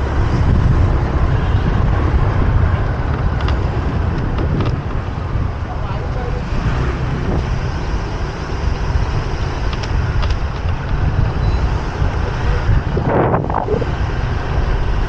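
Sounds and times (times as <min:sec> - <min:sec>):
traffic: 0:00.0 - 0:15.0
wind and road noise: 0:00.0 - 0:15.0.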